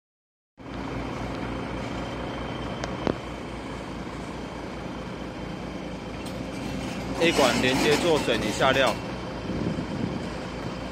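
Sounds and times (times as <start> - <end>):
diesel engine throbbing: 0.6 - 10.9.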